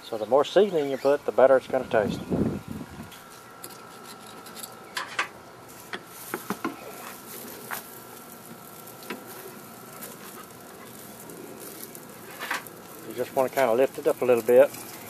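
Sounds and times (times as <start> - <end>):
metal grill lid raised: 0.5 - 2.2, 3.0 - 15.0.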